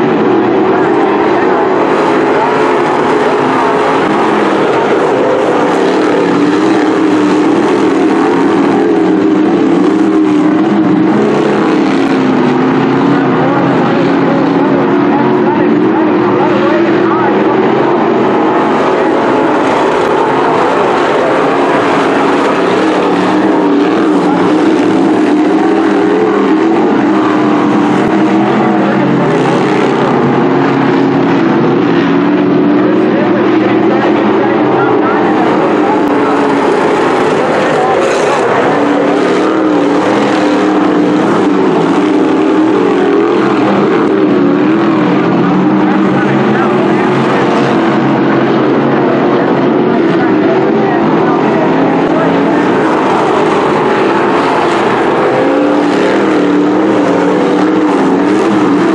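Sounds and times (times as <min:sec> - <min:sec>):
race car engines droning: 0:00.0 - 0:58.9.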